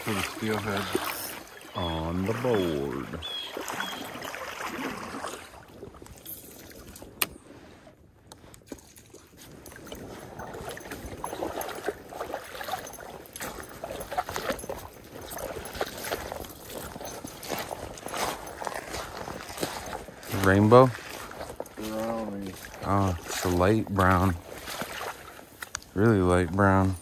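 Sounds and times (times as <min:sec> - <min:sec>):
wading footsteps in stream: 0:00.0 - 0:27.0
water sloshing: 0:00.0 - 0:27.0.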